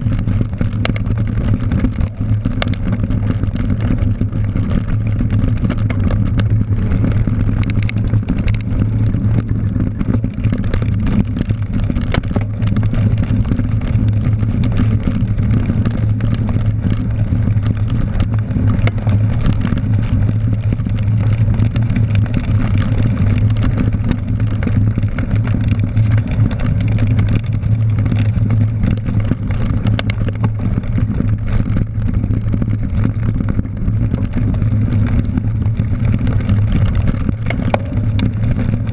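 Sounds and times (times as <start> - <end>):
bike knocking over bumps: 0.0 - 38.9
bike tires rolling on grass: 0.0 - 38.9.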